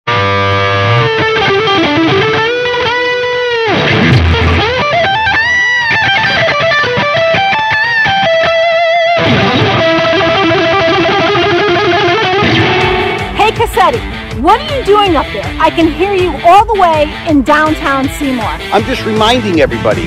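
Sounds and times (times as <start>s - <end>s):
distorted electric guitar: 0.1s - 20.0s.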